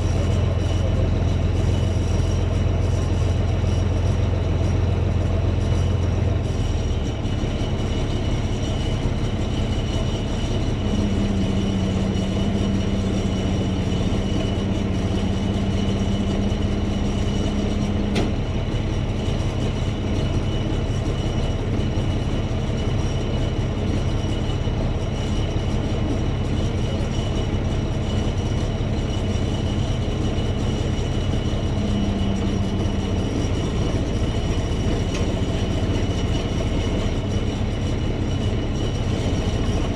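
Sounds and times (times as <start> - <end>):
heavy vehicle engine running: 0.0 - 39.9.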